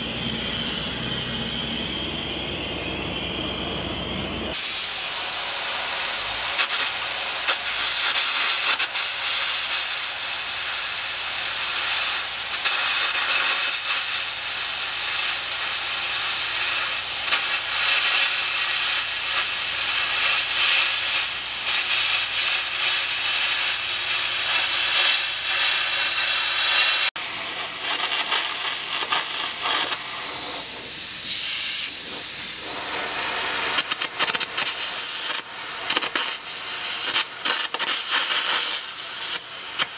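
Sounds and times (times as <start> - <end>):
carbon arc gouging hiss: 4.5 - 39.9.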